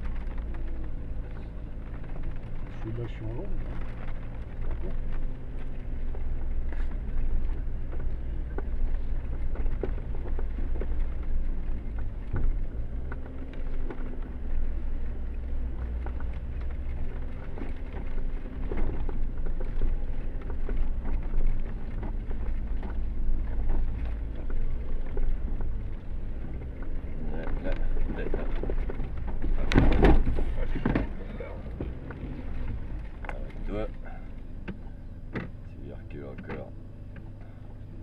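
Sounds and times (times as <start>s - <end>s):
body and suspension rattling: 0.0s - 38.0s
car engine running: 0.0s - 38.0s.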